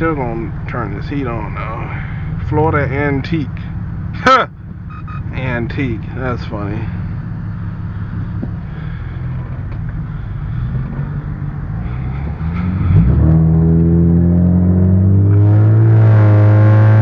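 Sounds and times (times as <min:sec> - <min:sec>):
car engine accelerating: 0:00.0 - 0:17.0
road rumble: 0:00.0 - 0:17.0.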